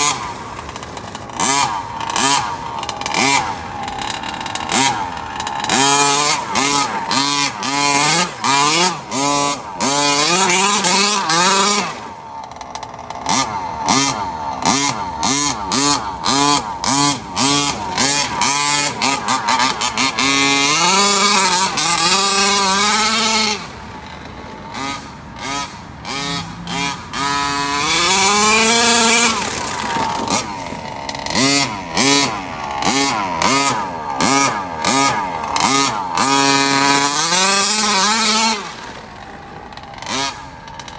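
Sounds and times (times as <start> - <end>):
small two-stroke engine revving: 0.0 - 40.9.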